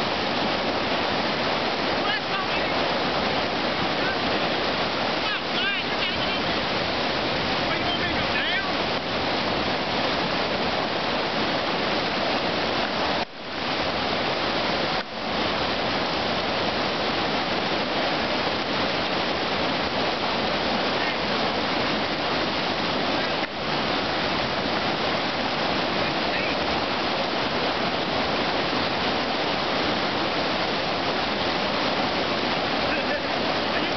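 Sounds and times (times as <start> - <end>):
whitewater rapids rushing: 0.0 - 33.9.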